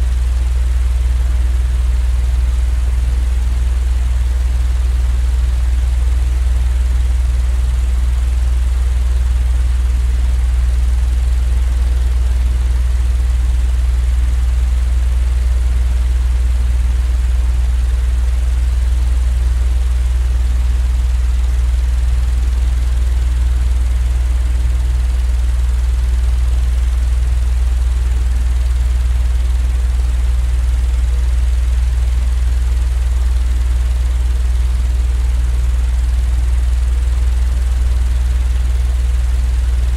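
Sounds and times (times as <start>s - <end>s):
deep continuous hum: 0.0s - 39.9s.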